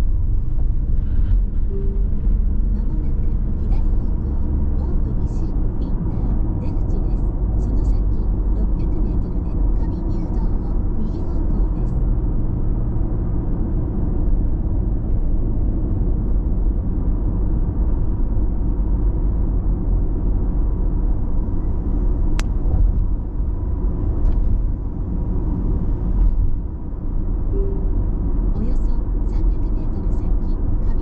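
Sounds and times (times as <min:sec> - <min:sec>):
car engine drone: 0:00.0 - 0:31.0
car tyre and road rumble: 0:00.0 - 0:31.0.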